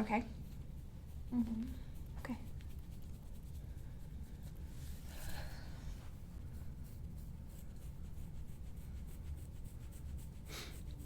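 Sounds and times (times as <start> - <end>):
steady low room hum: 0.0 - 11.0.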